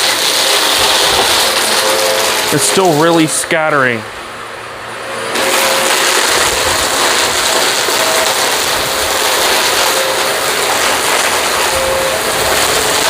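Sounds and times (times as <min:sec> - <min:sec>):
vacuum cleaner running over carpet: 0:00.0 - 0:03.8, 0:05.2 - 0:13.0.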